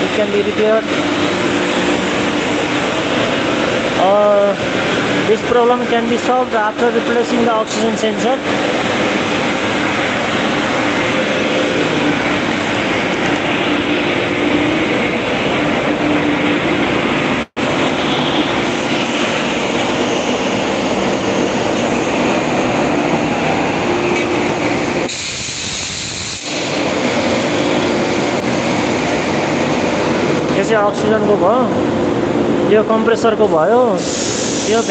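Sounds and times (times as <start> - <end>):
compressor machinery din: 0.0 - 34.9.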